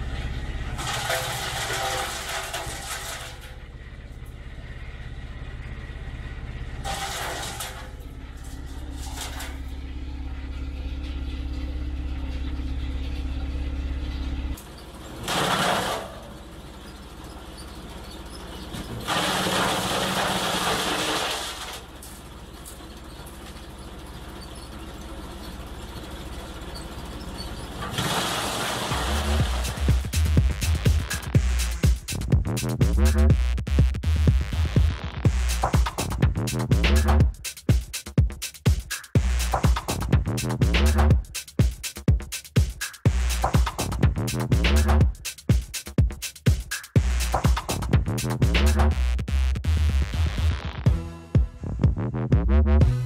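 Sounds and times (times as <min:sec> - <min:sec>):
chopper machine humming: 0:00.0 - 0:53.0.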